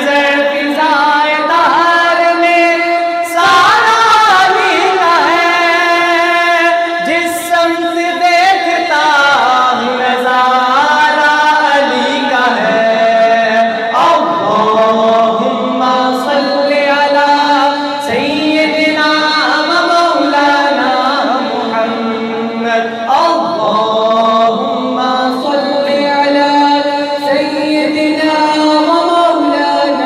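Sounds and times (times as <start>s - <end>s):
men singing devotional song: 0.0s - 30.0s.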